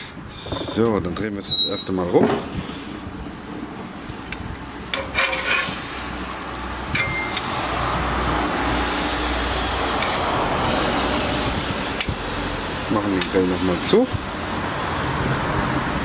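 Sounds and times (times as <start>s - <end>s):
meat sizzling on a grill: 2.5s - 16.0s.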